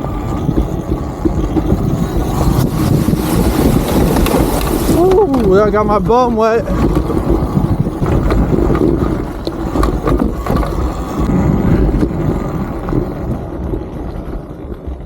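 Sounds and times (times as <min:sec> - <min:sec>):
tyre and chassis rattles: 0:00.0 - 0:15.0
wind rumbling on microphone: 0:00.0 - 0:15.0.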